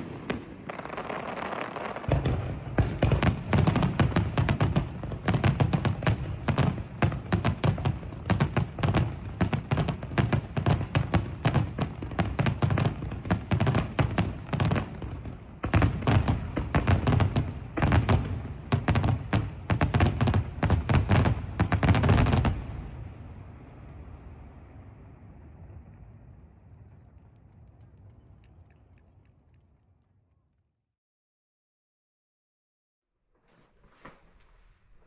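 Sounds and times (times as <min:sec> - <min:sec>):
fireworks bangs and booms: 0:00.0 - 0:28.9.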